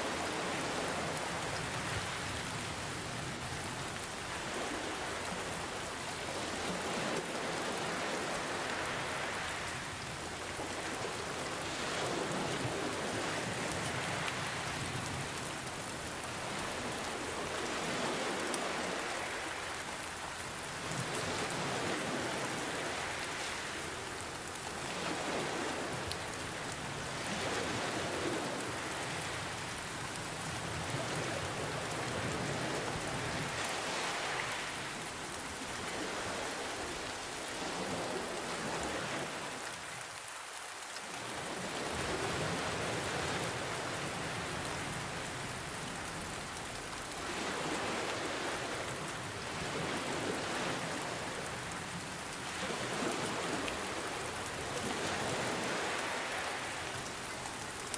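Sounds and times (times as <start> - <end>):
gentle ocean waves: 0.0 - 57.9
rain pattering: 0.0 - 57.9.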